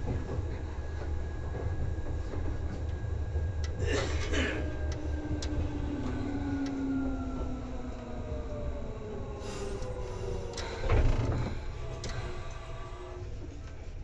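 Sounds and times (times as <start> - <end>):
low rumble of train wheels: 0.0 - 14.0
traction motor whine: 1.5 - 13.6.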